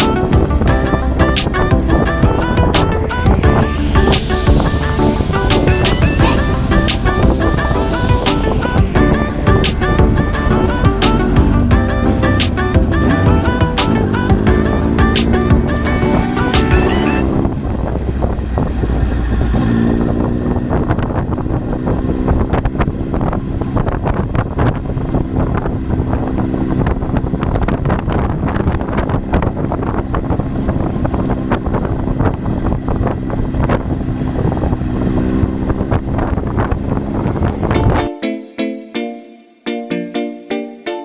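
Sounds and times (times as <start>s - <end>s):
motorcycle engine running: 0.0s - 37.9s
wind buffeting microphone: 0.0s - 38.1s.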